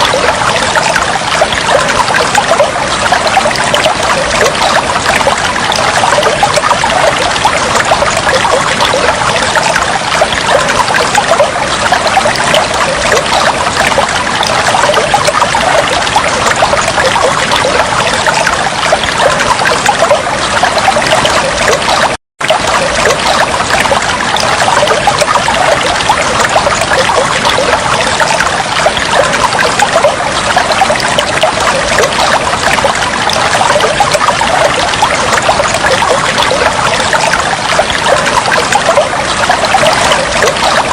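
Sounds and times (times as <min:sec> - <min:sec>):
water trickling and flowing: 0:00.0 - 0:40.9.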